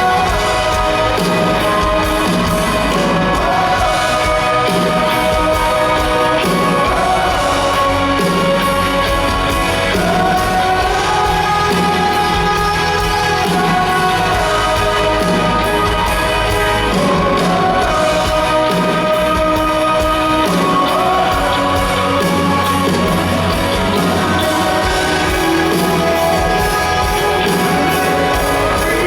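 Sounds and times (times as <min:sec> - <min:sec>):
guitar and band accompaniment: 0:00.0 - 0:29.0
voices singing held notes: 0:00.0 - 0:29.0.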